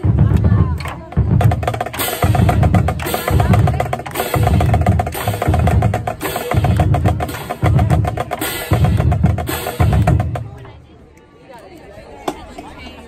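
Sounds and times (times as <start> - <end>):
quick percussion: 0.0 - 10.8.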